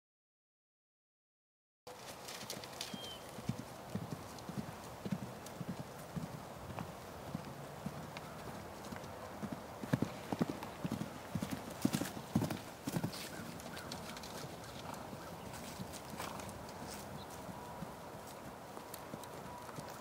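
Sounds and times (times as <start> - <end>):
horse hoofbeats on grass: 1.9 - 20.0.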